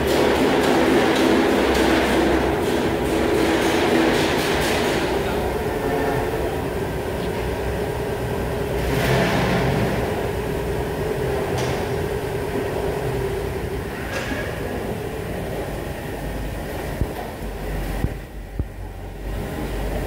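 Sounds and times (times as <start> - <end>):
machine hum with steady tone: 0.0 - 20.0.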